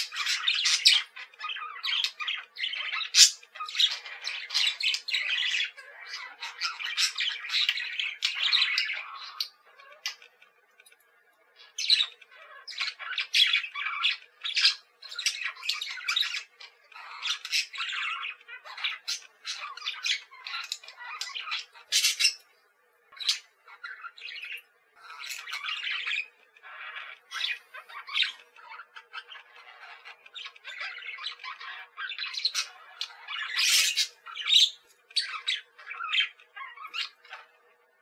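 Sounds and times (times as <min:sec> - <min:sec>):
budgerigar warbling and chattering: 0:00.0 - 0:10.4, 0:11.6 - 0:37.6.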